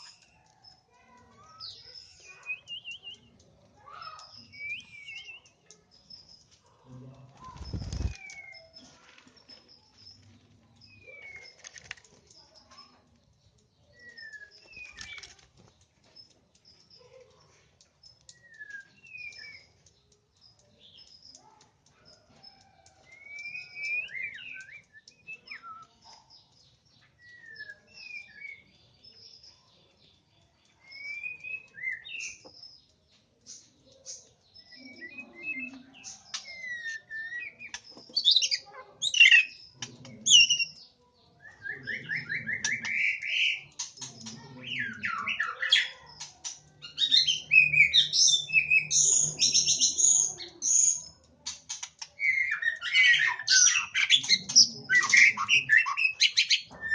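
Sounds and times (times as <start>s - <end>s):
birds chirping and whistling: 0.0s - 6.7s, 7.4s - 56.9s.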